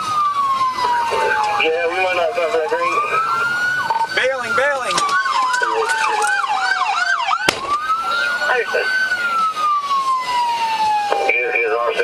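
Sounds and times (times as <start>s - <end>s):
police sirens wailing: 0.0s - 12.0s
siren yelp: 0.0s - 12.0s.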